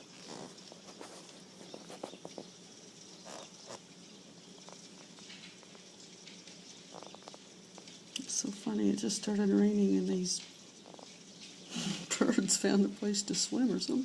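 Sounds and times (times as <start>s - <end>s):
light rain pattering: 0.0s - 14.0s.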